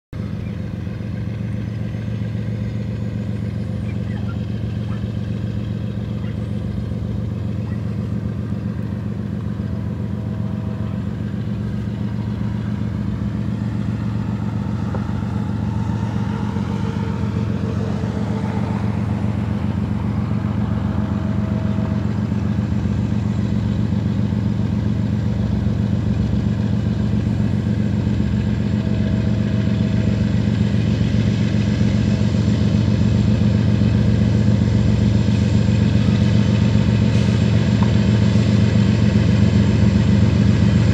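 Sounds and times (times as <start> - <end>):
locomotive diesel engines droning: 0.1 - 40.9.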